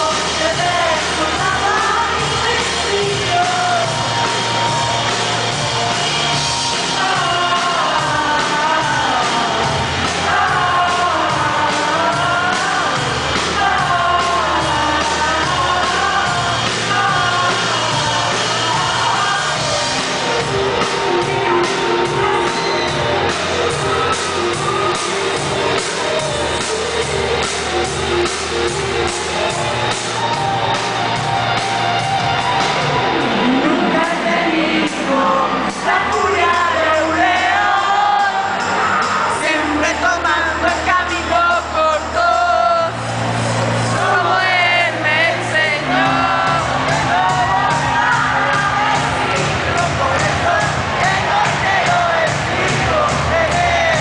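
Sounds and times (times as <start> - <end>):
live band music: 0.0 - 54.0
person singing lead vocal: 0.0 - 54.0.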